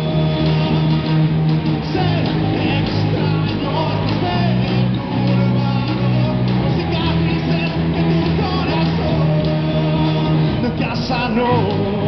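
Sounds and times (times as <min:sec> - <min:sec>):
bass guitar: 0:00.0 - 0:12.0
drum kit: 0:00.0 - 0:12.0
electric guitars: 0:00.0 - 0:12.0.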